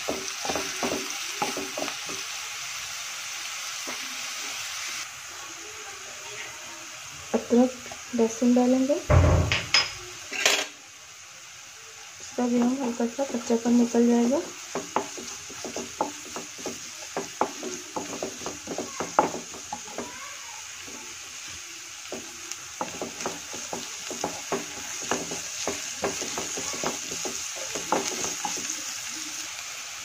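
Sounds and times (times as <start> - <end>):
onions sizzling in butter: 0.0 - 30.0.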